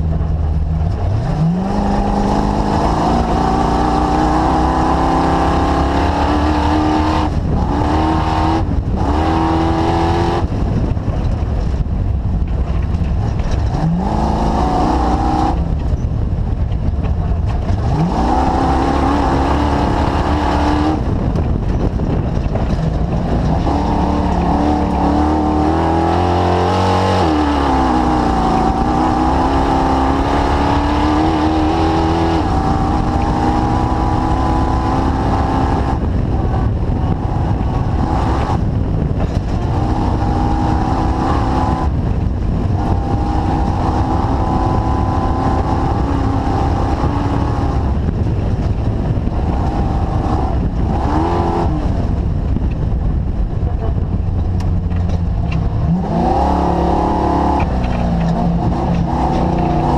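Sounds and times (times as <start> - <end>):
off-road car engine running: 0.0 - 59.9.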